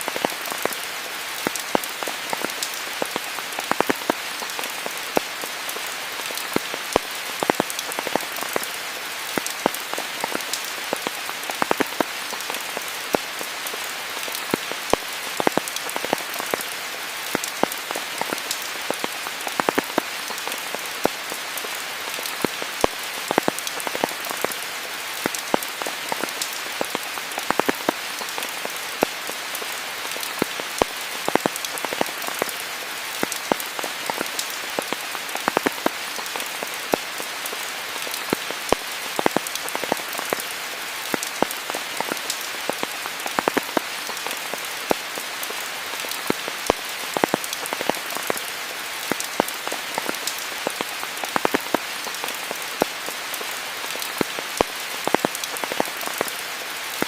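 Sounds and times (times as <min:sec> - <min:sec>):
sharp close raindrops: 0:00.0 - 0:57.0
steady rain hiss: 0:00.0 - 0:57.0.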